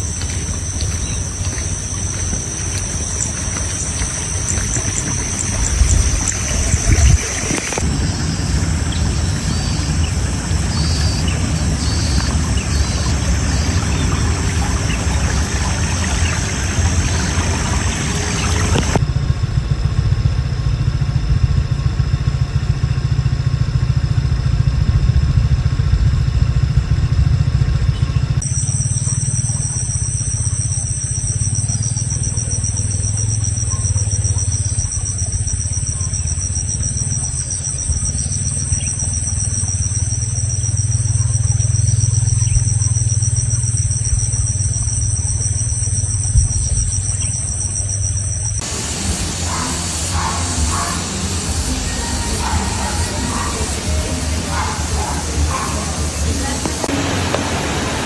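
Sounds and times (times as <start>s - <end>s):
broad noise: 0.0s - 19.1s, 27.9s - 58.0s
constant low rumble: 0.0s - 58.0s
high whine of insects: 0.0s - 58.0s
steady engine-like hum: 0.0s - 58.0s.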